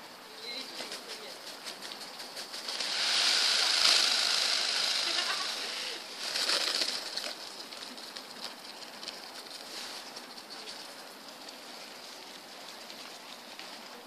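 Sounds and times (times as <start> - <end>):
peacock feathers rattling: 0.4 - 14.0.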